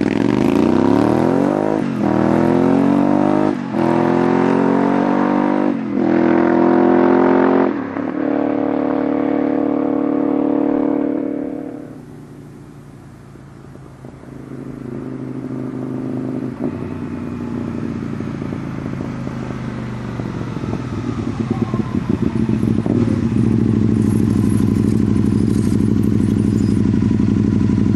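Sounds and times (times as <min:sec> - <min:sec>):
motorcycle engine approaching: 0:00.0 - 0:27.9.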